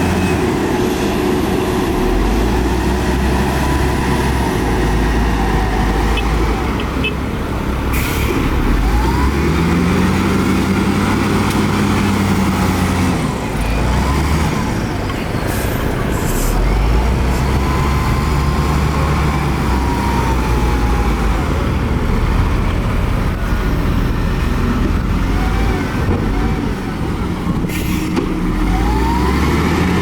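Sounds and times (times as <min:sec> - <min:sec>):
diesel earthmoving machinery: 0:00.0 - 0:30.0.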